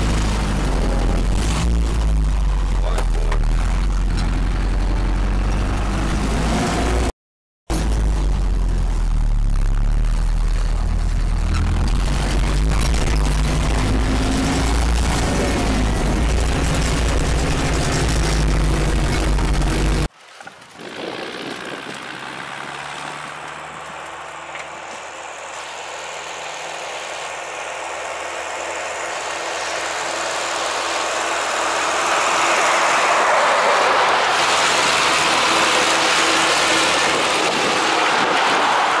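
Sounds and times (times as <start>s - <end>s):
tractor diesel engine running: 0.0s - 6.6s, 7.7s - 20.1s, 21.4s - 38.6s
road and traffic noise: 0.0s - 7.1s, 7.7s - 39.0s.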